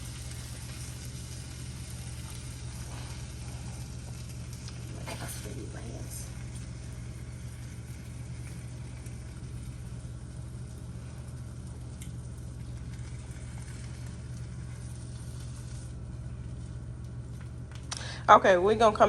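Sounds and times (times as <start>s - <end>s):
bacon sizzling in a frying pan: 0.0s - 19.0s
steady low hum: 0.0s - 19.0s.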